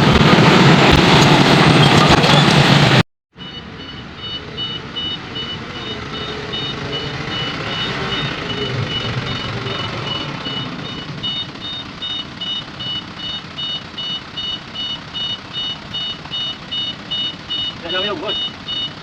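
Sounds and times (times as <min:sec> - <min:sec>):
loud rough rush of noise: 0:00.0 - 0:18.7
heavy machinery running: 0:00.0 - 0:19.0
excavator reversing alarm beeps: 0:03.4 - 0:19.0.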